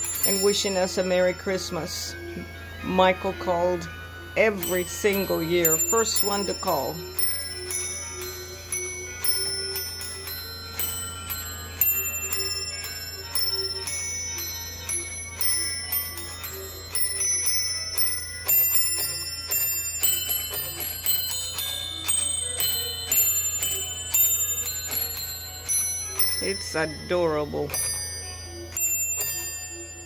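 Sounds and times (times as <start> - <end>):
small bells playing a melody: 0.0 - 30.0.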